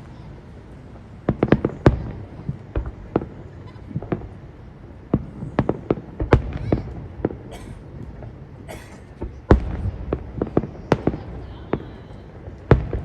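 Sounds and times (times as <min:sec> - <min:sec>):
fireworks bangs: 0:01.2 - 0:13.0.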